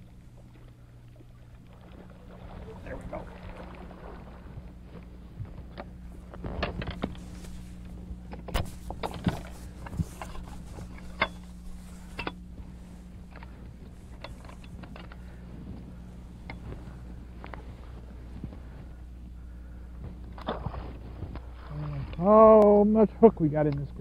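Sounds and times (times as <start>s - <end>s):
gear clicking and knocking in boat: 0.0s - 22.8s
steady low hum: 0.0s - 24.0s.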